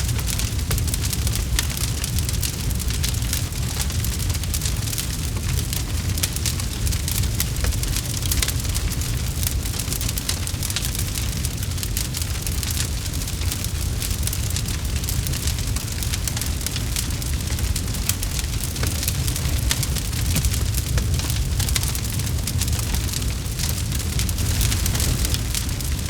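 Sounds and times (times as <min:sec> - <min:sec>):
campfire popping and snapping: 0:00.0 - 0:26.0
flames rumbling: 0:00.0 - 0:26.0.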